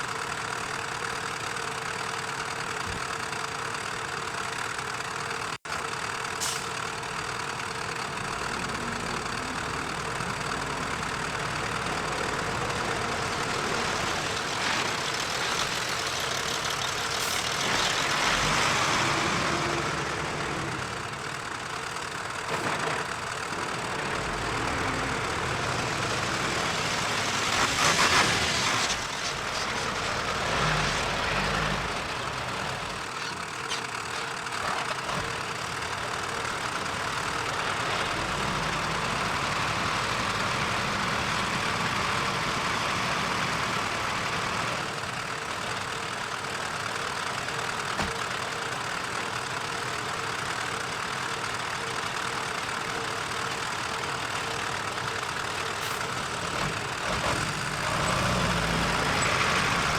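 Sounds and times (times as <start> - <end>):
heavy machinery diesel engine: 0.0 - 59.9.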